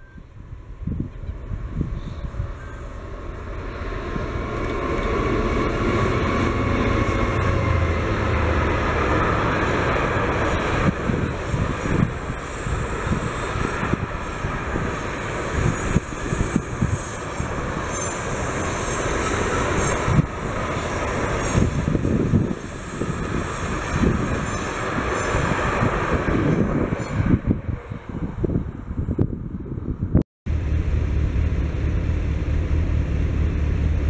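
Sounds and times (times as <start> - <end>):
freight train rumbling past: 0.0 - 34.0
wind buffeting microphone: 0.0 - 34.0.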